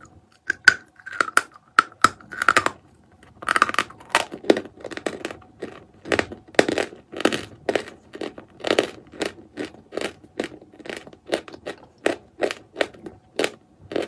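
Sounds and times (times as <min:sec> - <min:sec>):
chalk crunching while chewed: 0:00.0 - 0:14.0.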